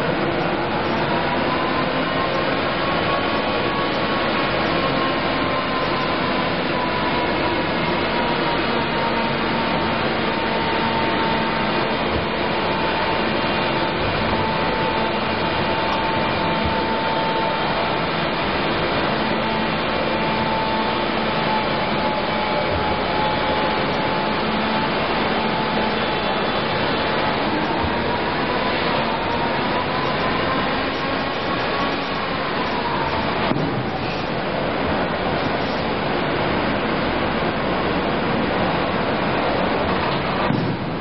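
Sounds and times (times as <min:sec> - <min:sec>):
machine drone: 0:00.0 - 0:41.0
steady high whine: 0:00.0 - 0:41.0.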